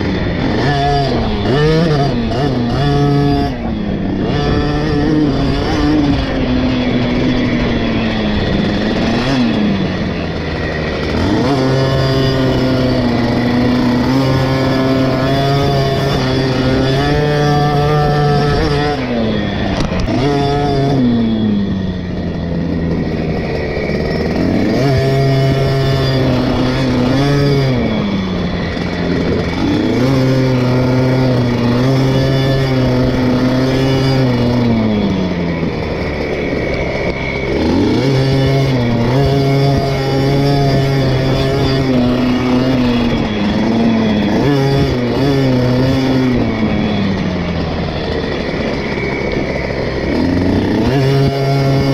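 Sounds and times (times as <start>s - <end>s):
two-stroke engine at high revs: 0.0s - 51.9s.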